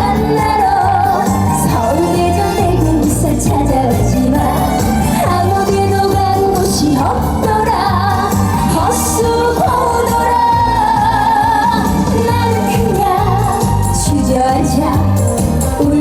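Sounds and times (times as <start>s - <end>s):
backing track with steady beat: 0.0s - 16.0s
woman singing with vibrato: 0.0s - 16.0s.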